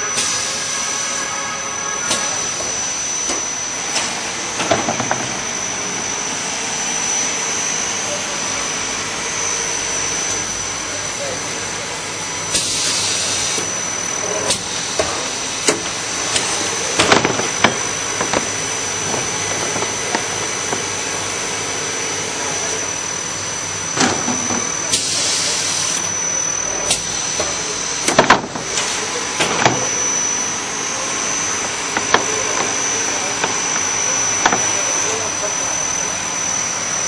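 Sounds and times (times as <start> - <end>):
machine high whine: 0.0 - 37.0.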